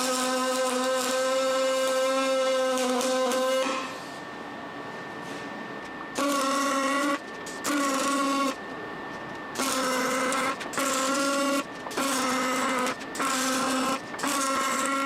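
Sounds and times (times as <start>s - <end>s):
machine buzzing in bursts: 0.0s - 4.2s, 6.1s - 8.6s, 9.5s - 15.0s.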